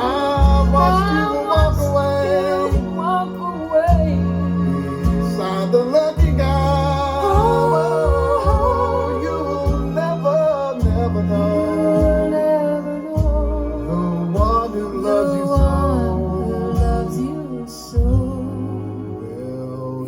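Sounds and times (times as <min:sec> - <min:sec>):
slow instrumental ballad over loudspeakers: 0:00.0 - 0:20.0.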